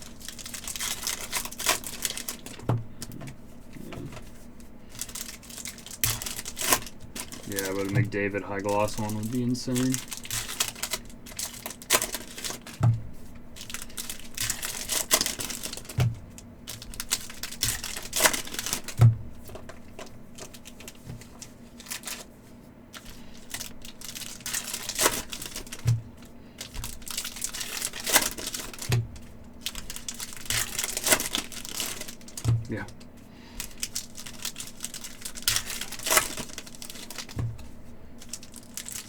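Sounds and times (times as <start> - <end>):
crinkling: 0.0 - 39.0.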